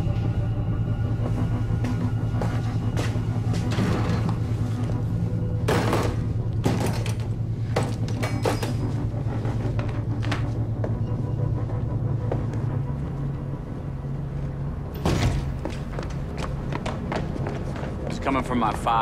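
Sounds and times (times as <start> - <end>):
low droning hum: 0.0 - 18.1.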